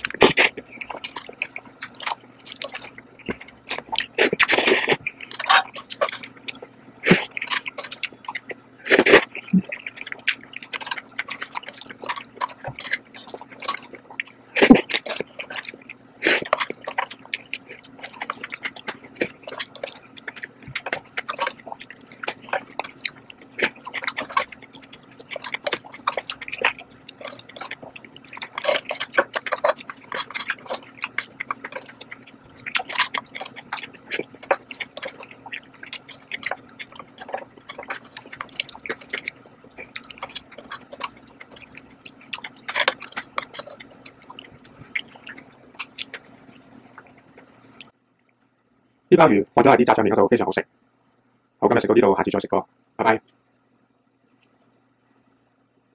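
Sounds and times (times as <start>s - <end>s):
wet chewing clicks and lip smacks: 0.0s - 47.9s.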